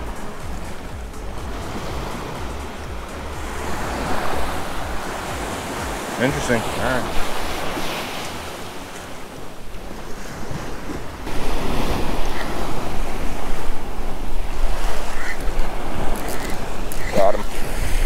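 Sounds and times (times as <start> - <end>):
waves washing against seawall: 0.0 - 18.0
wind buffeting microphone: 0.0 - 18.0.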